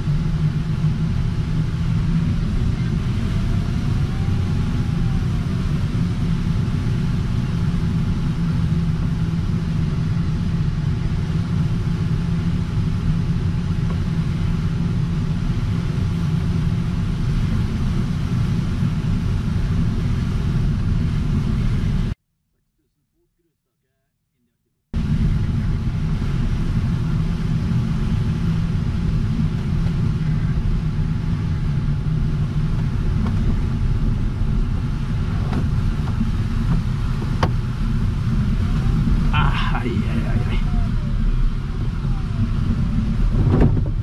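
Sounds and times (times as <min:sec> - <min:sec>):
air rushing over glider cockpit: 0:00.0 - 0:22.2, 0:25.0 - 0:44.0.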